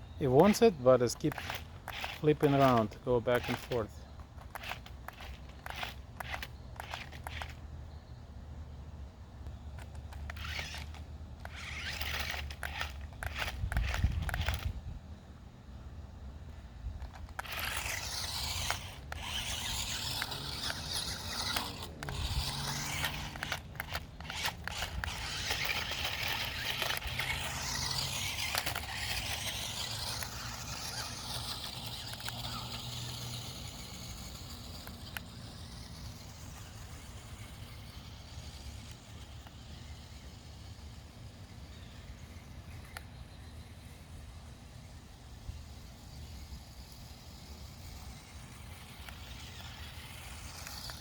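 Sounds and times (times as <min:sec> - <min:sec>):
toy car electric motors whirring: 0:00.0 - 0:08.0, 0:09.4 - 0:15.5, 0:16.2 - 0:51.0.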